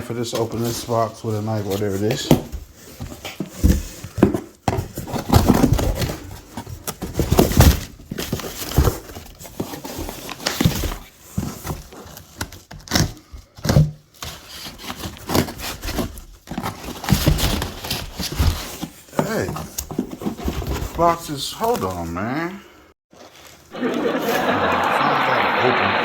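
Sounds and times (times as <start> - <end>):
cardboard box scraping and crinkling: 0.2 - 22.2, 23.2 - 24.4.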